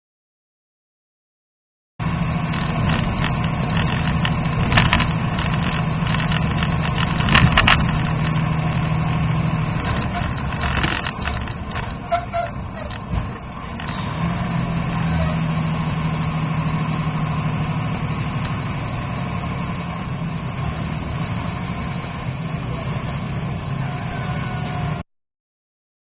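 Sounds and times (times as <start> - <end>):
vehicle engine running: 2.0 - 25.0.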